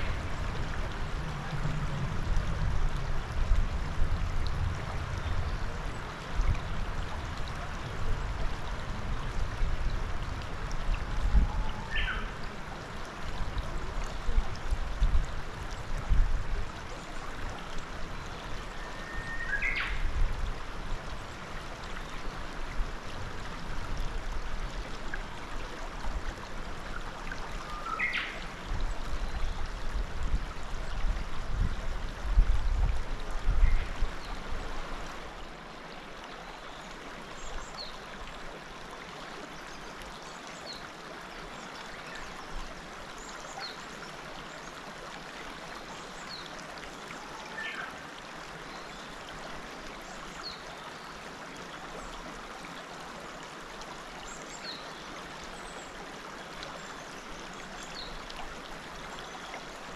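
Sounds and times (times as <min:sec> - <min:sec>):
river running over stones: 0:00.0 - 0:59.9.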